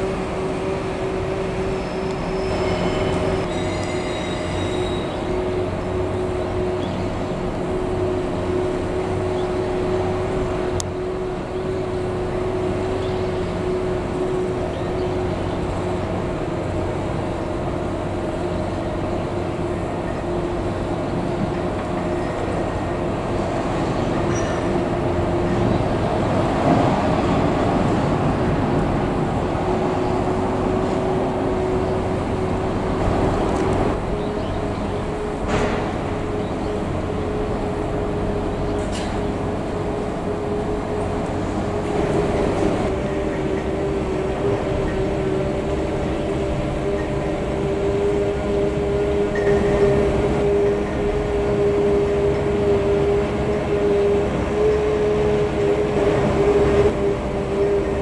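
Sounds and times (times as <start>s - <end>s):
locomotive humming and whining: 0.0s - 58.0s.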